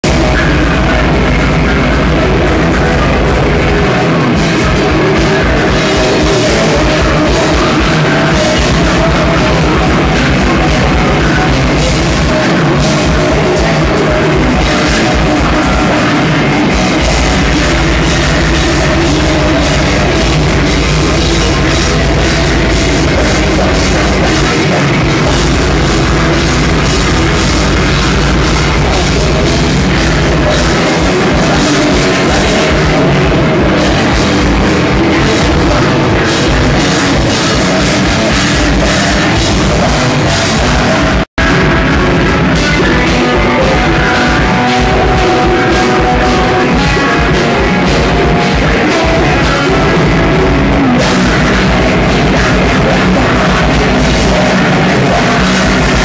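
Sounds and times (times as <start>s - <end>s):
metal band playing live: 0.0s - 56.0s
rapid kick-drum pulses: 0.0s - 56.0s.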